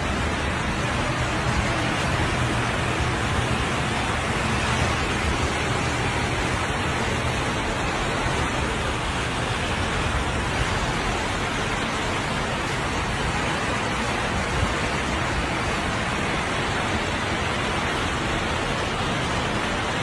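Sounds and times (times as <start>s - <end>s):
floodwater rushing: 0.0s - 20.0s
heavy rain: 0.0s - 20.0s.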